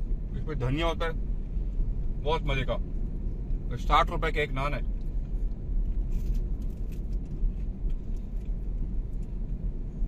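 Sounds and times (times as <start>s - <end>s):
car driving heard from inside: 0.0s - 10.0s.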